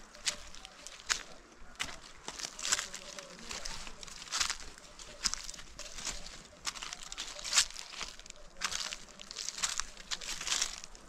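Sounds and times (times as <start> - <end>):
footsteps on dry leaves and stones: 0.0 - 11.0.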